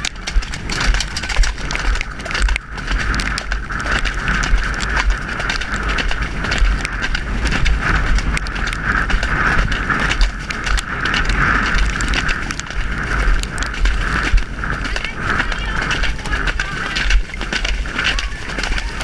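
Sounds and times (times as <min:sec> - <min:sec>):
horse hoofbeats on wet track: 0:00.0 - 0:19.0
tack clicking and rattling: 0:00.0 - 0:19.0
wind buffeting camera: 0:00.0 - 0:19.0.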